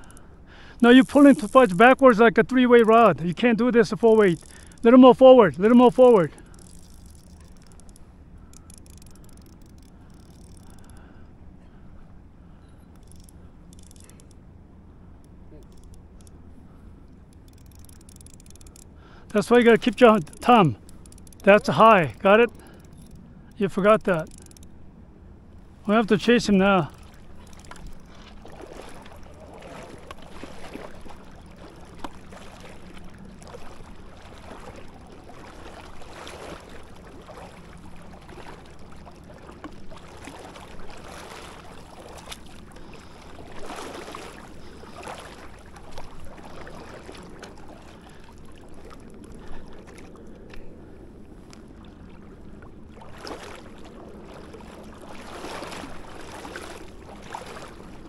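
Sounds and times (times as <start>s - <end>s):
water splashing from wading: 0.0s - 11.3s, 13.0s - 58.0s
steady low hum: 0.0s - 58.0s.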